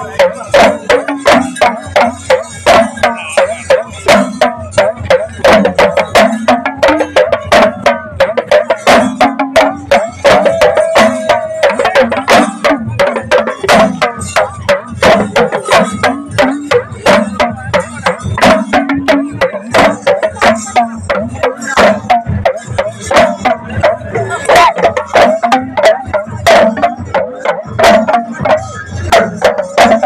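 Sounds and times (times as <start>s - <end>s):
drums beaten in fast rhythm: 0.0s - 30.0s.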